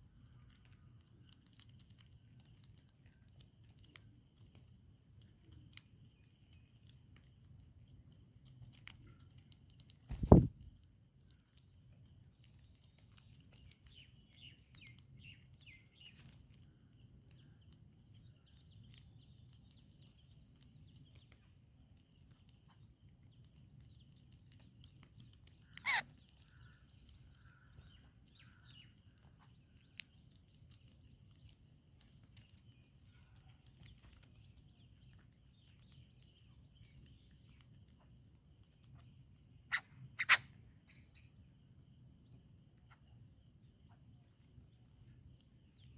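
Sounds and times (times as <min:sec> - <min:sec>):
faint high insect drone: 0:00.0 - 0:45.9
faint bird chirps: 0:05.2 - 0:45.9.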